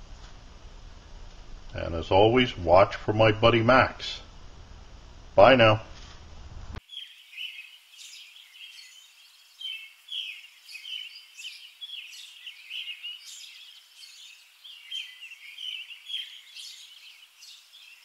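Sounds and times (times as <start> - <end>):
songbirds chirping: 0.0 - 5.9, 6.8 - 18.0
faint outdoor hiss: 0.0 - 18.0.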